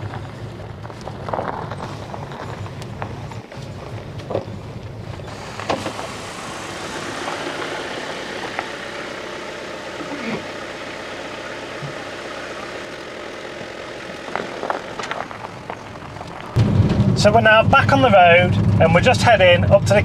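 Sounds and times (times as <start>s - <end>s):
campervan engine and road noise: 0.0s - 20.0s.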